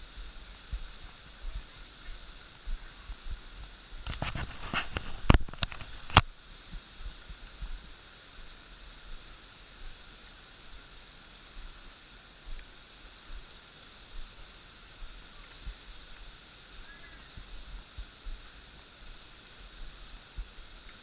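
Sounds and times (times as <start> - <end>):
rushing water hiss: 0.0 - 21.0.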